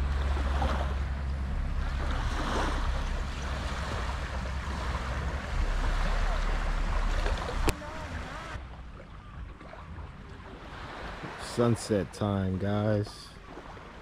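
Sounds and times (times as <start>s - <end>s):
wind buffeting microphone: 0.0s - 11.2s
waves washing: 0.0s - 14.0s.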